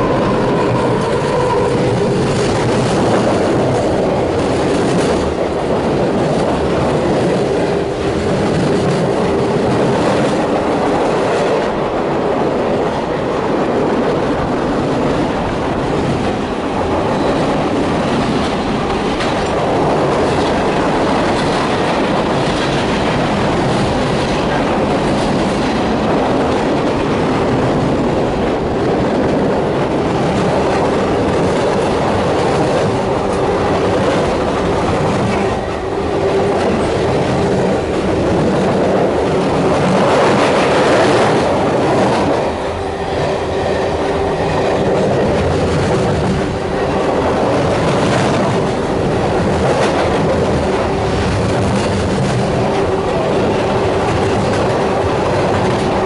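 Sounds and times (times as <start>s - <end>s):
train wheels rumbling over bridge: 0.0s - 56.0s.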